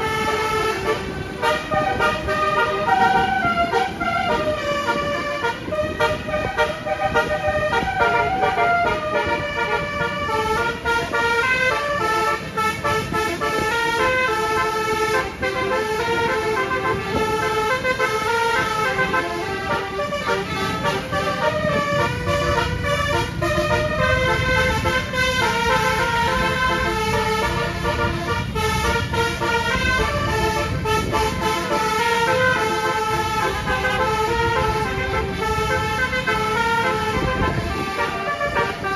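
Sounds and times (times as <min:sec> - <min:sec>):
multi-tone musical bus horn: 0:00.0 - 0:38.9
road and engine rumble: 0:00.0 - 0:38.9.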